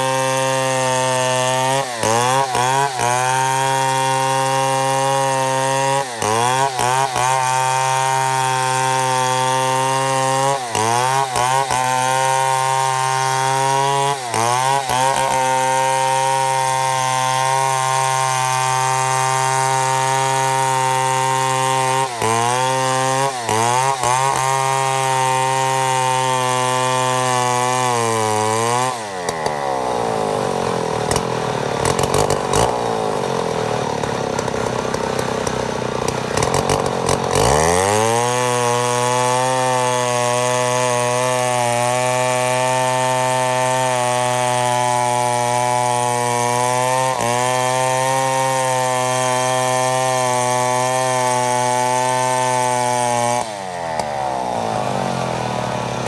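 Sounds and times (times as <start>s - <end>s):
chainsaw ripping a log: 0.0s - 56.0s.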